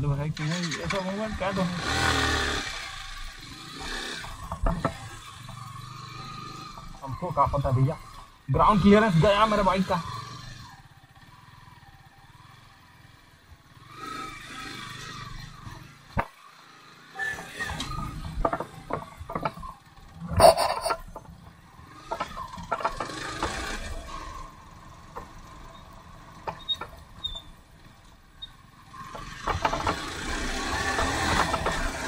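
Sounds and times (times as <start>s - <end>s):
motorcycle engine: 0.0s - 32.0s
knocks and clatters from bike: 0.4s - 10.7s, 13.7s - 32.0s.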